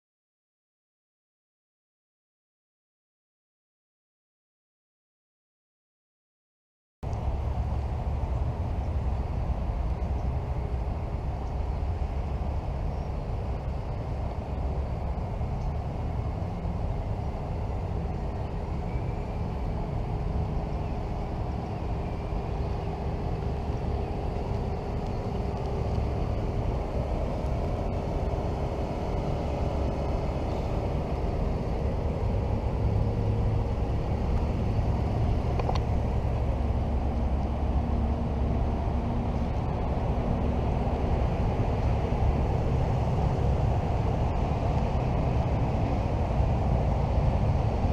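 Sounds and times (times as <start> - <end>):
car engine idling: 7.1 - 47.9.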